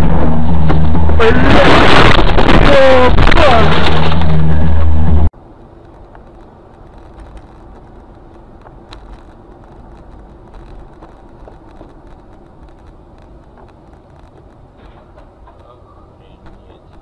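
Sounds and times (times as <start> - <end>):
car rumbling on road: 0.0 - 17.0
low hum: 0.0 - 17.0.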